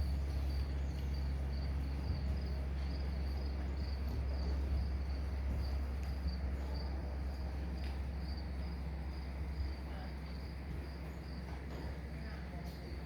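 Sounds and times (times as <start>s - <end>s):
constant low hum: 0.0s - 13.0s
crickets chirping: 0.0s - 13.0s.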